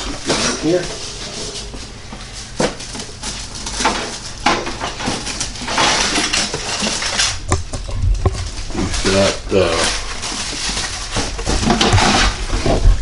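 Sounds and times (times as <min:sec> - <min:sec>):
metal racks clinking: 0:00.0 - 0:01.8, 0:03.2 - 0:12.8
plastic wrapping rustling: 0:00.0 - 0:13.0.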